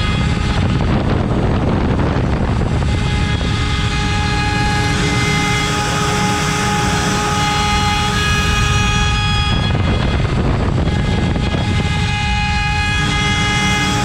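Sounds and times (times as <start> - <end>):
harsh wood cutting noise: 0.0 - 14.0
router spindle tone: 0.0 - 14.0.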